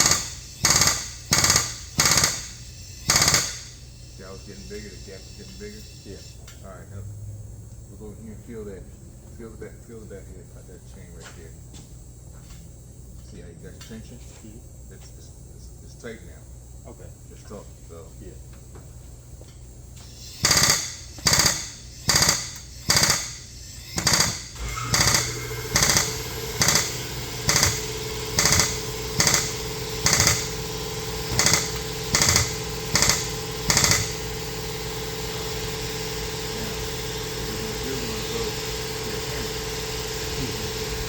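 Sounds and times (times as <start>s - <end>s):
steady motor hum: 0.0s - 41.0s.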